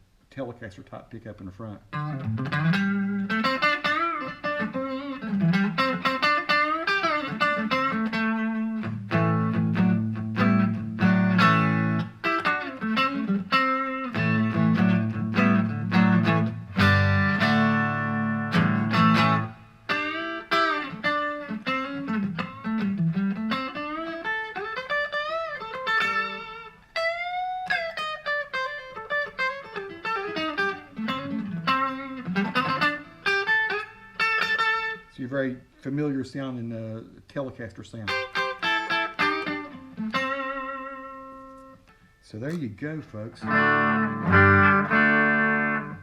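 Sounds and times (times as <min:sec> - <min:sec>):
clean electric guitar: 0:01.8 - 0:35.9, 0:38.0 - 0:46.0.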